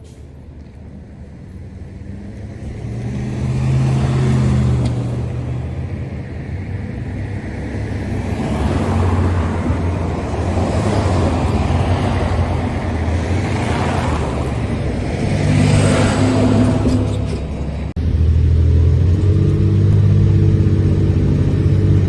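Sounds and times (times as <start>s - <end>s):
tyre and road noise: 0.0s - 22.0s.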